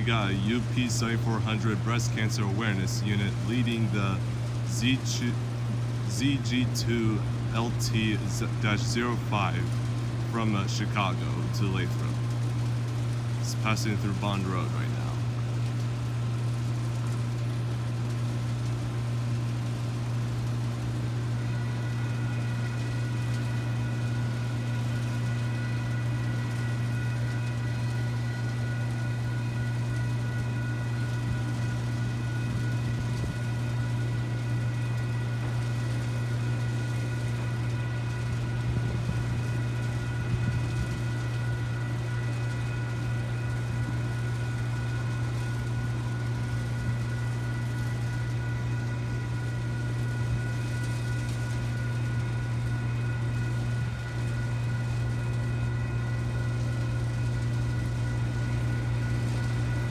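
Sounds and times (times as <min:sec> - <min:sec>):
high ringing tones: 0:00.0 - 0:59.9
low engine hum: 0:00.0 - 0:59.9.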